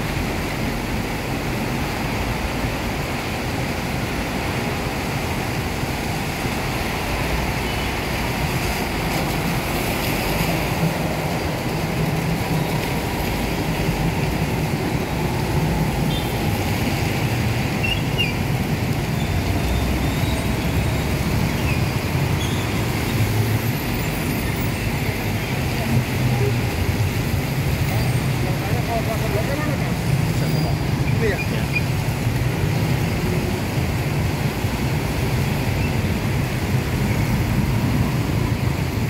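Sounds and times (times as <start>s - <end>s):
rain hiss: 0.0s - 39.0s
tyres hissing on wet road: 0.0s - 39.0s.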